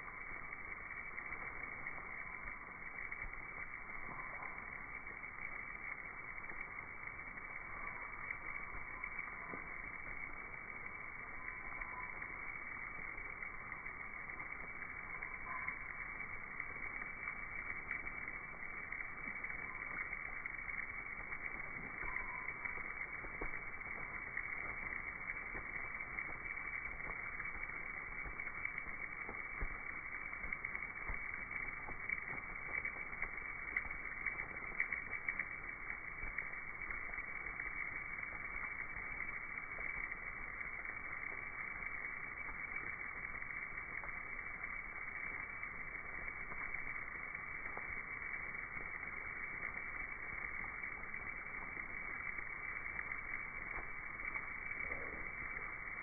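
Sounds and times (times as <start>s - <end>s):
sharp ticks: 0.0s - 56.0s.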